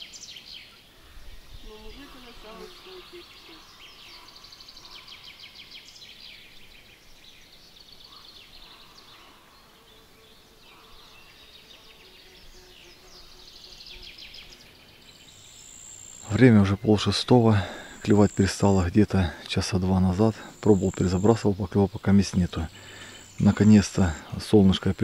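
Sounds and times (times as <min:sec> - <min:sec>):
birds calling: 0:00.0 - 0:25.0
low steady background hiss: 0:00.0 - 0:25.0
insects chirring: 0:00.8 - 0:06.0, 0:07.9 - 0:25.0.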